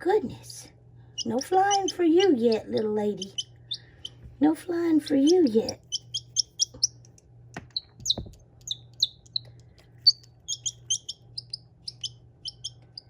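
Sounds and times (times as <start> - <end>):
baby chick peeping: 1.0 - 13.0.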